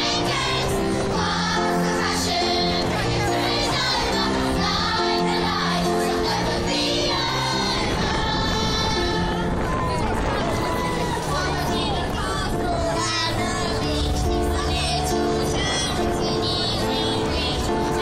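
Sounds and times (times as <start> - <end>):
children's choir over loudspeakers: 0.0 - 18.0.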